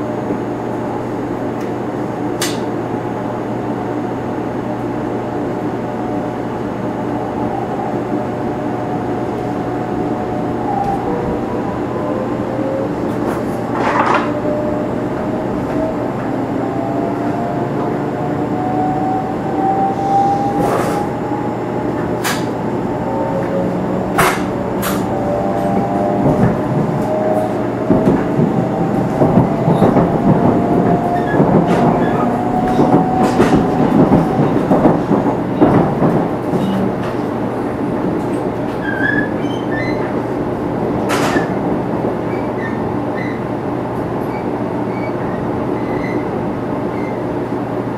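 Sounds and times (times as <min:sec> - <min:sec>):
wheels rumbling on rail: 0:00.0 - 0:47.9.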